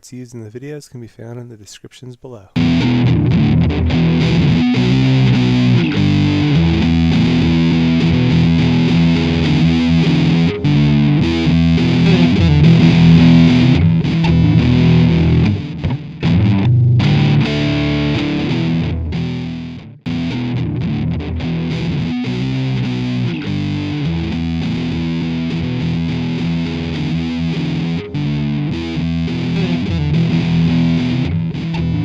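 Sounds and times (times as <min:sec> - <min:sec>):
distorted guitar rock music: 0:02.6 - 0:32.0.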